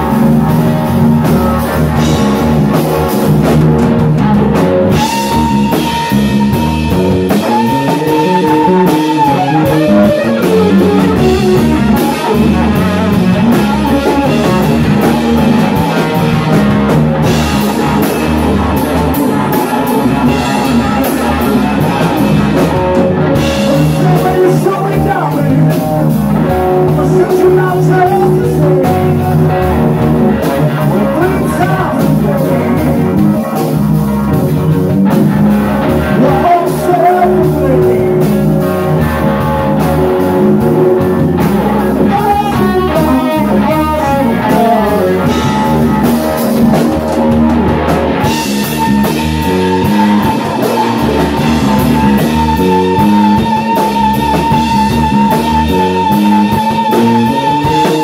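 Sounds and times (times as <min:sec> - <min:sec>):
bass guitar: 0:00.0 - 0:58.0
drum kit: 0:00.0 - 0:58.0
electric guitar lead: 0:00.0 - 0:58.0.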